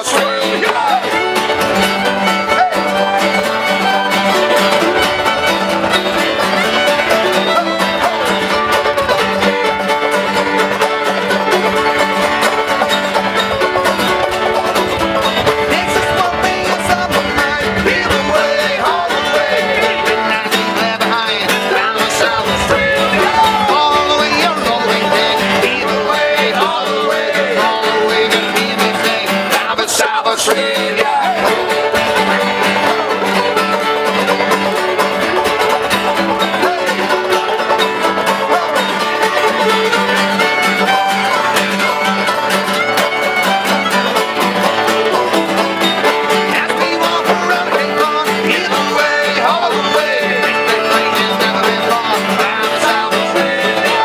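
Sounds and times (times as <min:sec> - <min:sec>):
acoustic folk music: 0:00.0 - 0:54.0.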